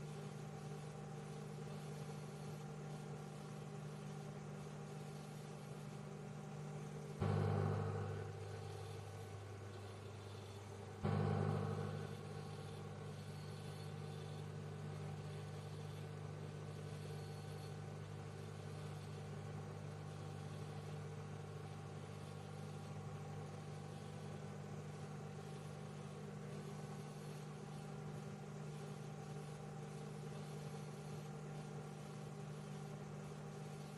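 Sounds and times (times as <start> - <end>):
fan hiss: 0.0 - 33.9
microwave oven humming: 0.0 - 33.9.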